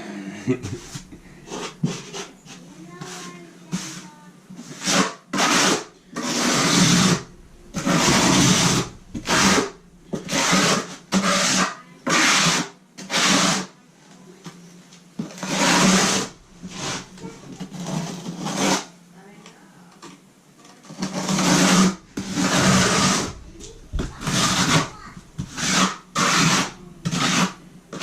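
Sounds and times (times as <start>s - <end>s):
trowel scraping mortar: 0.6s - 13.7s, 15.3s - 18.9s, 20.9s - 28.0s.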